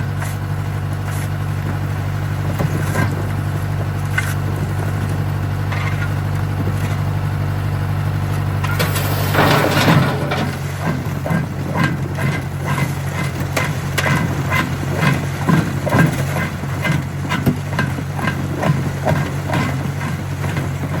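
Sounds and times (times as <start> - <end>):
jaw crusher engine drone: 0.0 - 21.0.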